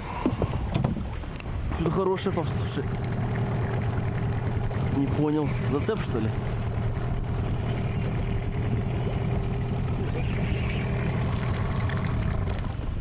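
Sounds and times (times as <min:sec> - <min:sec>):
boat motor idling: 0:00.0 - 0:13.0.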